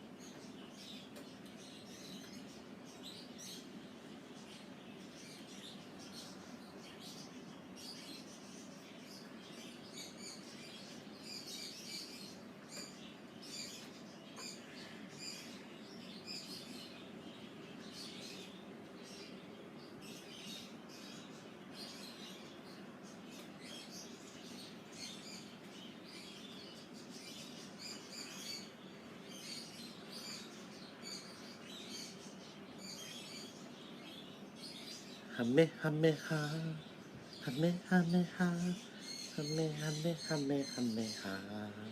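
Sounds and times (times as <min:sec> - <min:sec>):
low background hum: 0:00.0 - 0:41.9
small birds chirping: 0:00.0 - 0:41.9.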